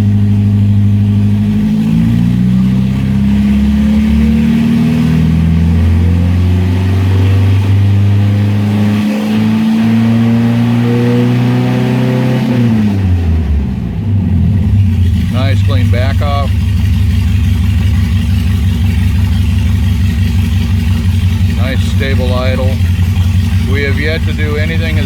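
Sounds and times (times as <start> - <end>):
car engine at raised revs: 0.0 - 25.0.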